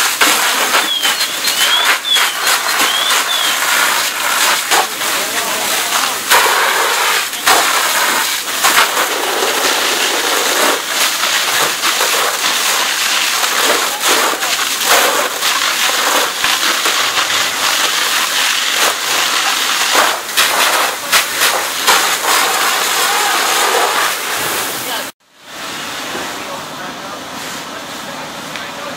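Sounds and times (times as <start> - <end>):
sharp cracks: 0.0 - 24.5
fire crackling and popping: 0.0 - 25.1
fire rushing hiss: 0.0 - 28.5.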